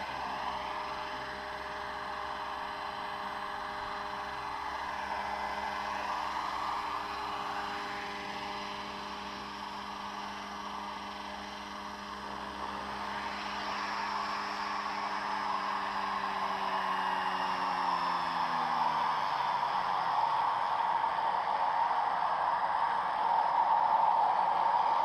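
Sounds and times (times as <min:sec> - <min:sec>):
rotor blades rushing: 0:00.0 - 0:23.0
model helicopter whine: 0:00.0 - 0:25.0.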